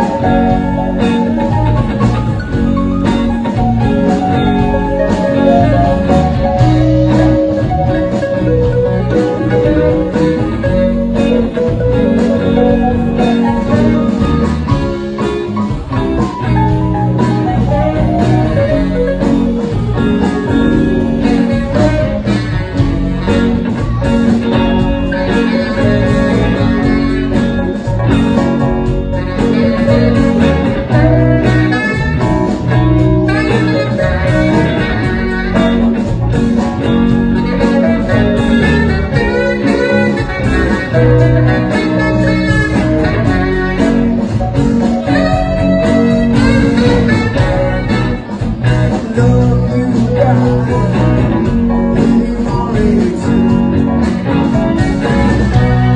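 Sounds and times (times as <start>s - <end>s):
blues band playing: 0.0s - 55.9s.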